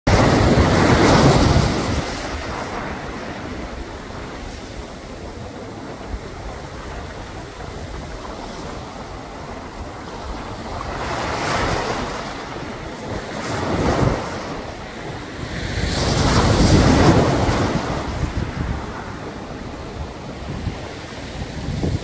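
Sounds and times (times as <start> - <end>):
surf washing over rocks: 0.1 - 22.0.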